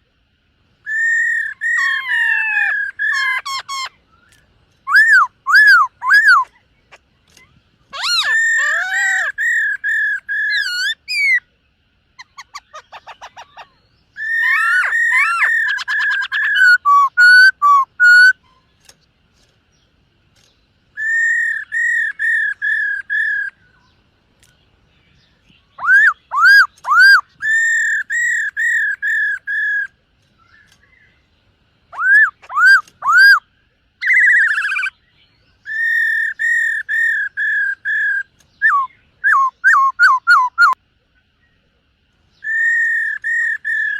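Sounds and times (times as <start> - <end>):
bird singing whistled phrases: 0.8 - 6.6, 7.3 - 11.5, 12.2 - 18.6, 20.9 - 24.0, 25.1 - 31.1, 31.9 - 40.8, 42.3 - 43.9.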